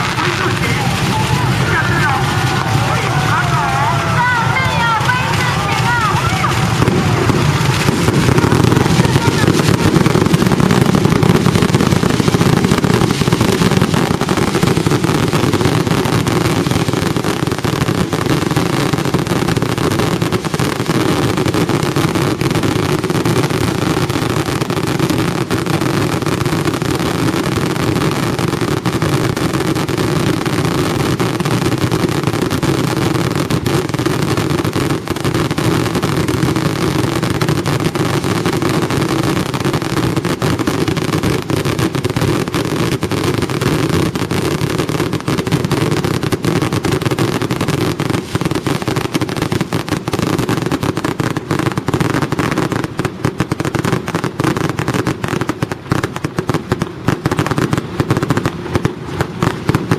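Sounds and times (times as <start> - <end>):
fireworks barrage crackling: 0.0 - 59.9.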